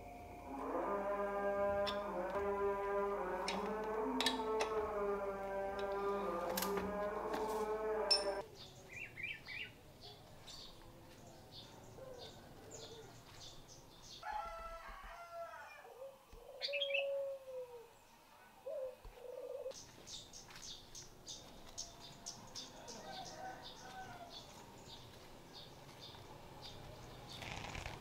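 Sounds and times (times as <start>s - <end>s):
birds chirping: 0.0s - 14.3s, 17.9s - 28.0s.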